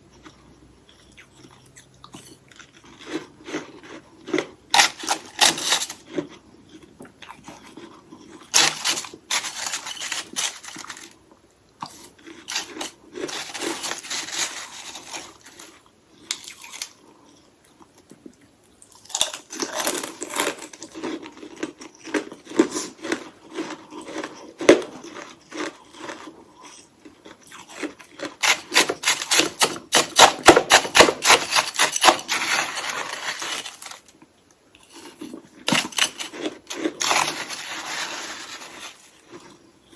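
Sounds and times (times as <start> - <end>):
biting and crunching ice: 2.6 - 6.4, 7.3 - 11.2, 11.8 - 17.0, 19.0 - 26.8, 27.4 - 34.1, 34.8 - 39.6.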